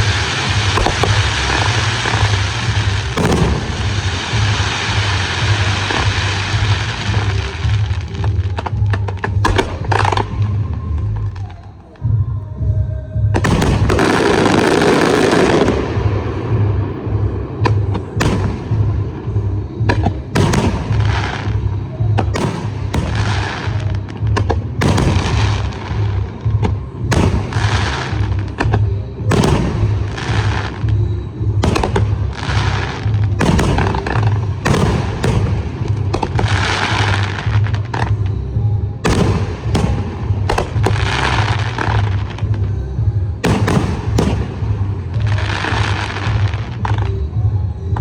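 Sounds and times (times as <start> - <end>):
fireworks bangs and crackling: 0.0 - 48.0
music with pulsing bass beat: 0.0 - 48.0.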